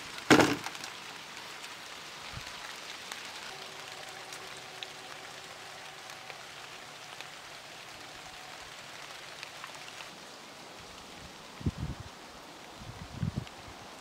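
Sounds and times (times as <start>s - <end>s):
light rain patter: 0.0s - 14.0s
raindrops ticking: 0.0s - 14.0s.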